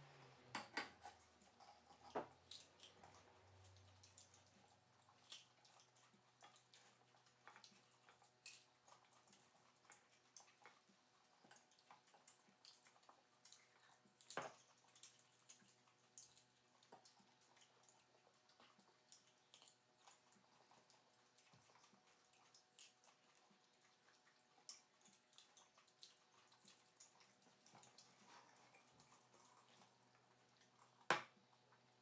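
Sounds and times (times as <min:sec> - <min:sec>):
faint small clicks and ticks: 0:00.6 - 0:32.0.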